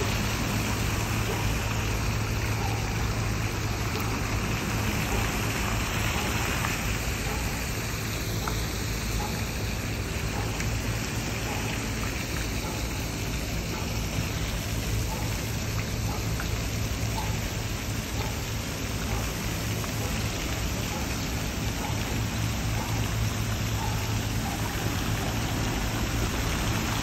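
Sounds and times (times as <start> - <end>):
constant low hum: 0.0 - 27.0
fountain water splashing: 0.0 - 27.0.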